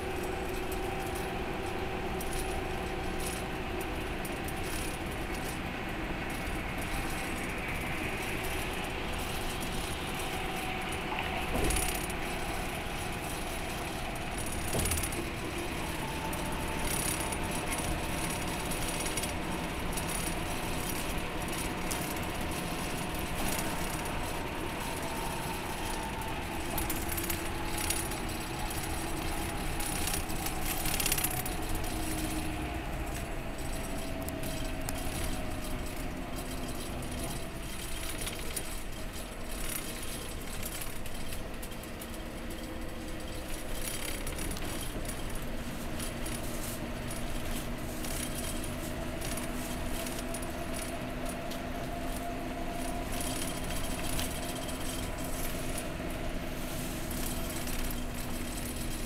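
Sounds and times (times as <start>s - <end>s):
coach engine hum: 0.0s - 59.0s
tyre and road noise: 0.0s - 59.0s.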